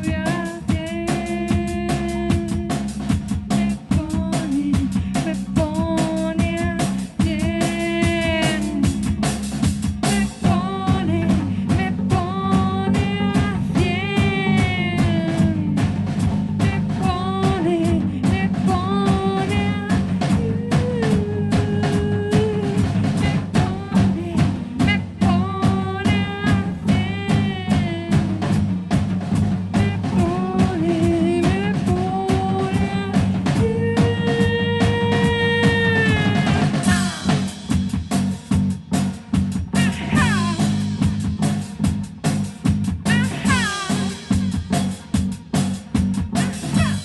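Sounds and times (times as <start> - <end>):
woman singing: 0.0 - 9.3, 10.0 - 28.7, 29.7 - 37.6, 39.8 - 41.2, 43.1 - 44.8, 46.4 - 47.0
drum kit steady beat: 0.0 - 47.0
electric bass: 0.0 - 47.0.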